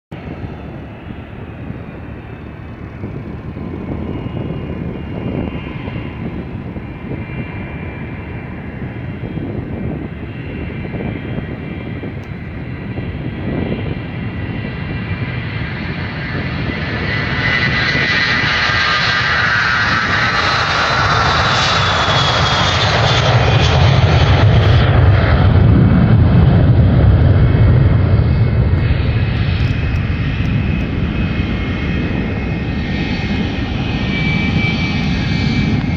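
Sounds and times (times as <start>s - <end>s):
high jet whine: 0.2s - 35.9s
jet engines rumbling: 0.2s - 35.9s.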